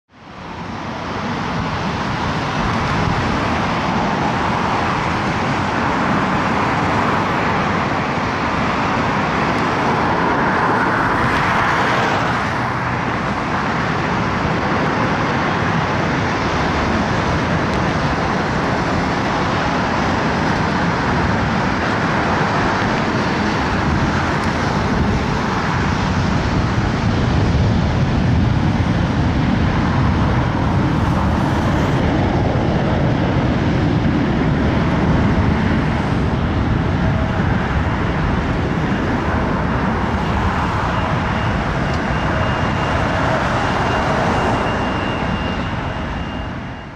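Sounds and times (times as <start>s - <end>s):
jet plane landing: 0.1s - 46.9s
road traffic: 0.1s - 46.9s.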